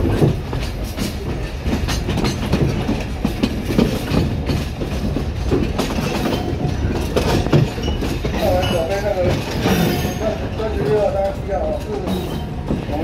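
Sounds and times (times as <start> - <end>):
train rumbling on track: 0.0 - 13.0
wheels clacking over rail joints: 0.0 - 13.0.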